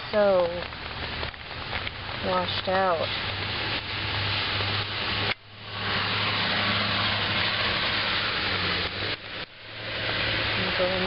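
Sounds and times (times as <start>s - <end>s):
low hum: 0.0s - 11.0s
rushing flood water: 0.0s - 11.0s.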